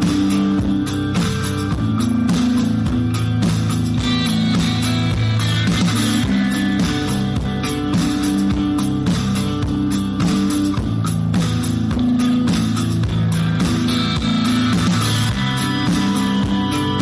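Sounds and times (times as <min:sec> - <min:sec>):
background music with steady beat: 0:00.0 - 0:17.0.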